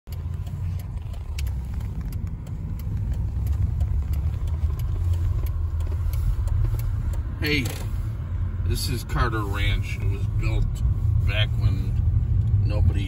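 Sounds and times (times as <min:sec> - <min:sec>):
road and engine rumble in car: 0:00.1 - 0:13.0.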